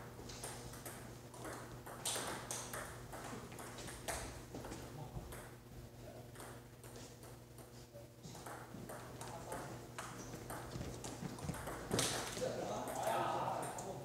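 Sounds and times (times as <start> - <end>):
table tennis balls tapping: 0.1 - 5.6, 6.3 - 13.9.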